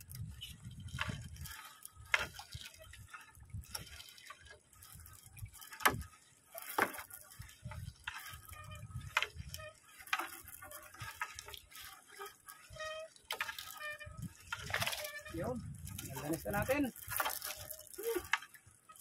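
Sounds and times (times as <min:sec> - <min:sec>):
water dripping and splashing: 0:00.0 - 0:19.0
wet net hauled over boat: 0:00.0 - 0:19.0.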